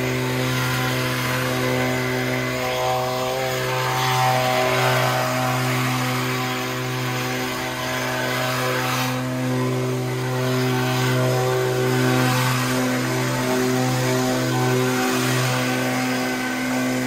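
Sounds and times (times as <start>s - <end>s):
leaf blower engine drone: 0.0s - 17.0s.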